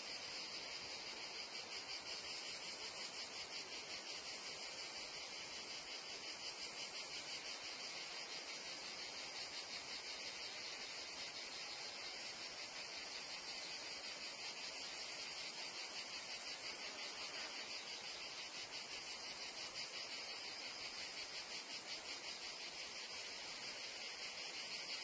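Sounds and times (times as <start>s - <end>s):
crickets and cicadas chirring: 0.0s - 25.0s.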